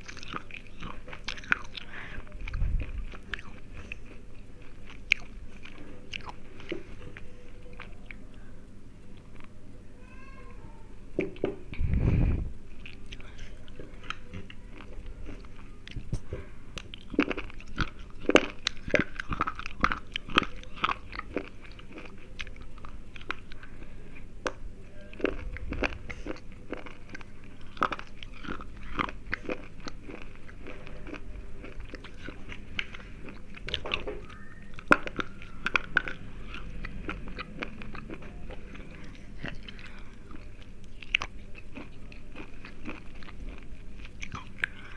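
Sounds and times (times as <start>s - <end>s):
dry crunches of chewing: 0.0s - 8.2s, 12.8s - 44.9s.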